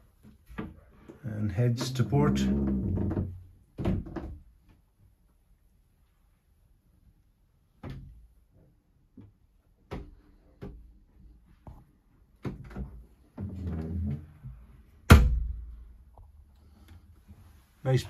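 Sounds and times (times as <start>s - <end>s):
knocks and thumps in wooden cabin: 0.0s - 4.9s, 7.7s - 17.3s.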